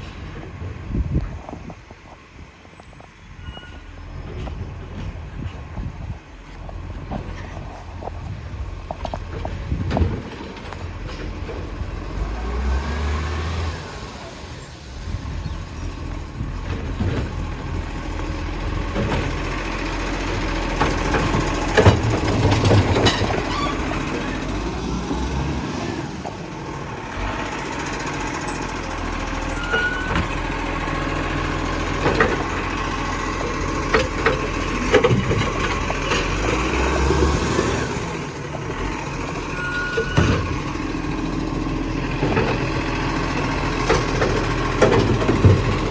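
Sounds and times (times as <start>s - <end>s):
garbage truck running: 0.0s - 45.9s.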